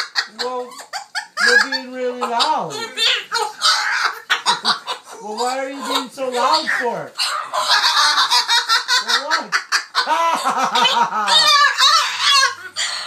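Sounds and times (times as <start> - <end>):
cockatoo squawking: 0.0 - 13.0.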